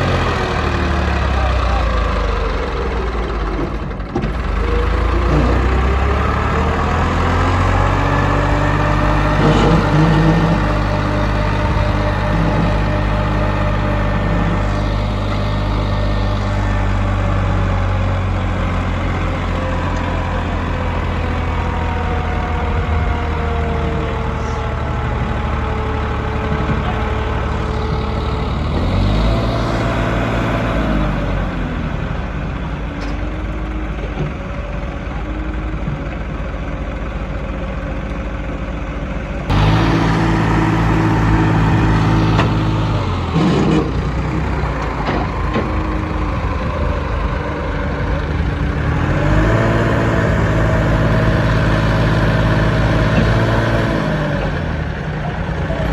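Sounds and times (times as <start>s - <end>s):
engine revving: 0.0s - 34.4s, 39.4s - 55.9s
diesel engines running: 0.0s - 55.9s.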